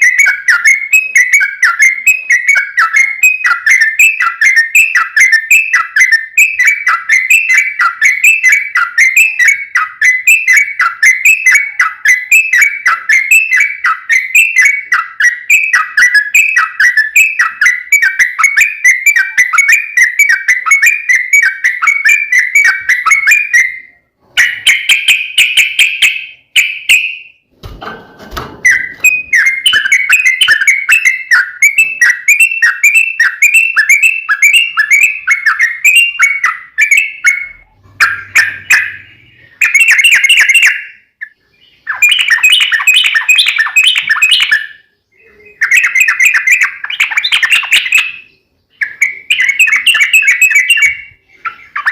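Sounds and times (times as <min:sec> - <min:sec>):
bird singing whistled notes: 0:00.0 - 0:27.4, 0:28.6 - 0:51.9.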